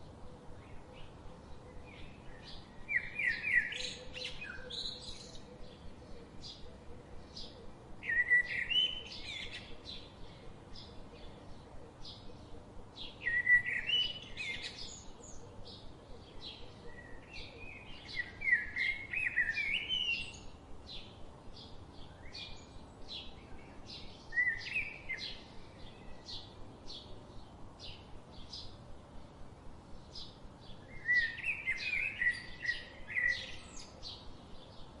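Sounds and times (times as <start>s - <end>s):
bird warbling song: 0.0s - 28.8s, 30.0s - 35.0s.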